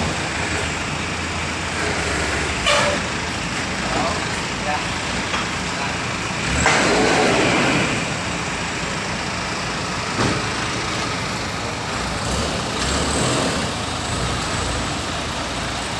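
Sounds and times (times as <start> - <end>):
road noise: 0.0 - 15.9
truck engine rumble: 0.0 - 15.9.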